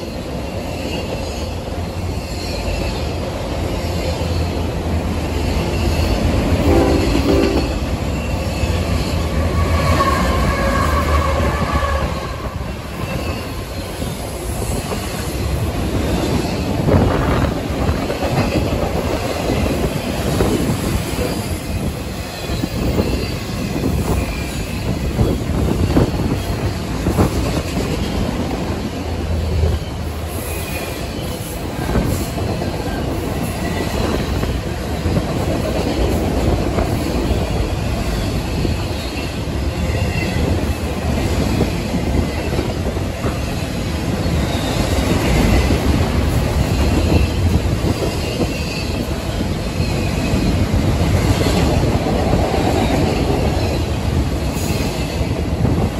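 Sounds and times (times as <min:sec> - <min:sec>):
freight trains rumbling past: 0:00.0 - 0:55.9.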